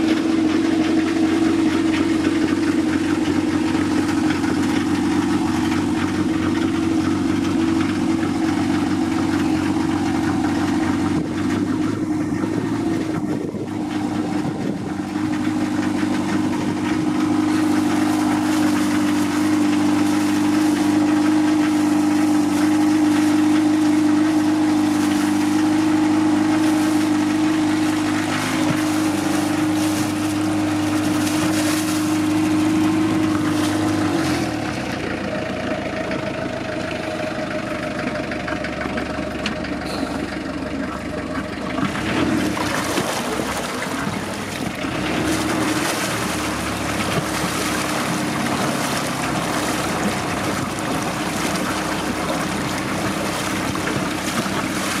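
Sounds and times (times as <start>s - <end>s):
boat engine running: 0.0s - 55.0s
exhaust water splashing: 0.0s - 55.0s.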